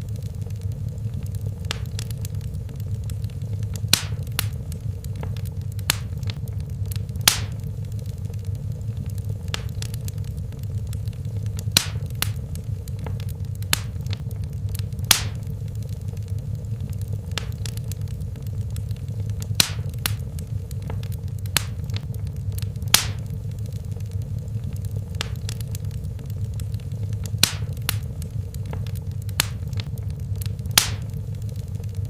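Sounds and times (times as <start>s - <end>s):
fire low rumble: 0.0s - 32.0s
wood fire crackling and popping: 0.0s - 32.0s.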